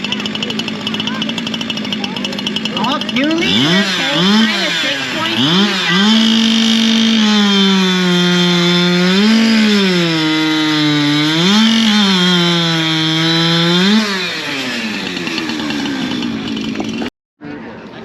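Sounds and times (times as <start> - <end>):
chainsaw revving high: 0.0 - 17.1.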